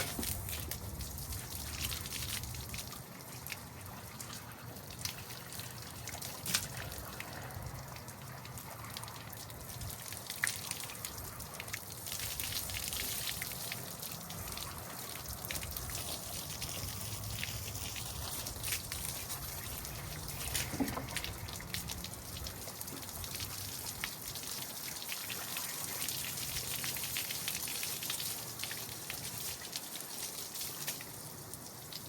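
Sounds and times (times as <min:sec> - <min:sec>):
water spraying and splashing: 0:00.0 - 0:32.0
water trickling: 0:00.0 - 0:32.0.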